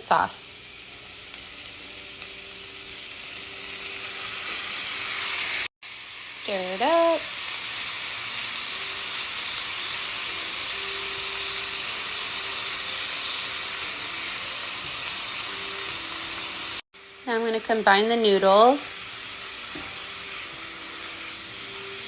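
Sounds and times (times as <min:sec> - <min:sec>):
food sizzling in a hot pan: 0:00.0 - 0:22.0.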